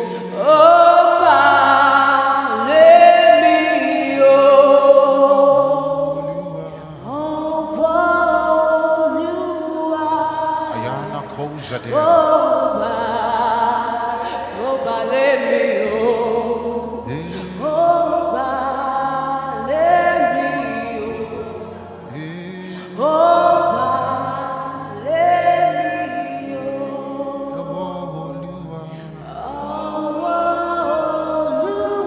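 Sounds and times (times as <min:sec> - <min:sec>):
gospel singing with vibrato: 0:00.0 - 0:32.0
low sustained chords: 0:00.0 - 0:32.0.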